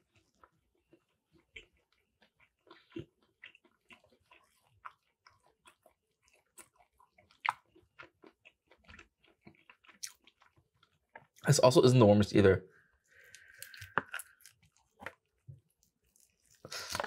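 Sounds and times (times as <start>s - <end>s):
person chewing tough chicken: 0.0s - 11.4s, 12.8s - 17.0s.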